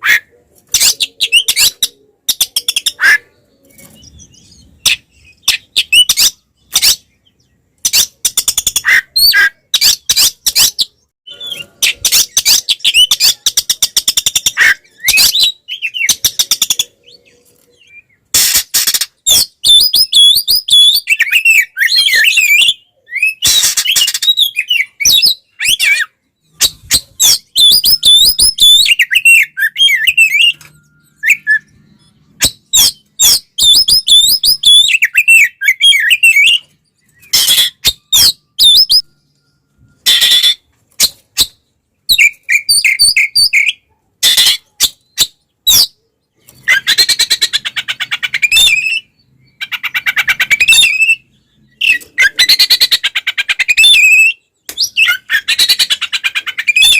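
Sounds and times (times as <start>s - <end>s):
bird singing warbling phrases: 0.0s - 56.9s.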